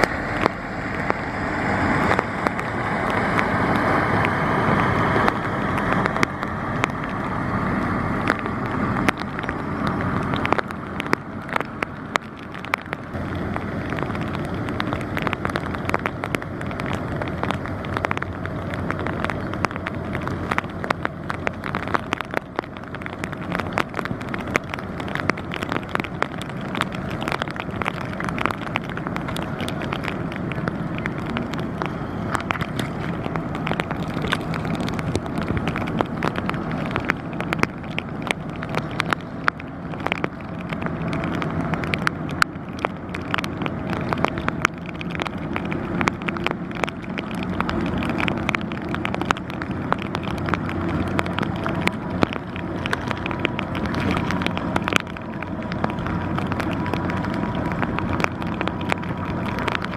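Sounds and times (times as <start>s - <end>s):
boat diesel engine drone: 0.0s - 59.8s
wind noise on microphone: 0.0s - 59.9s.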